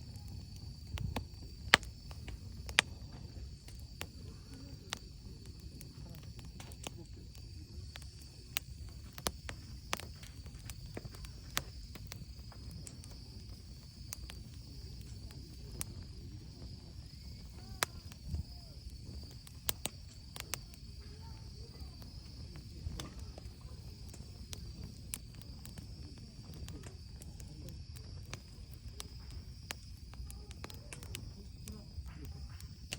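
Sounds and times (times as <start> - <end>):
insect trill: 0.0 - 32.9
low rumble of flames: 0.0 - 32.9
wood fire crackling and popping: 0.0 - 32.9.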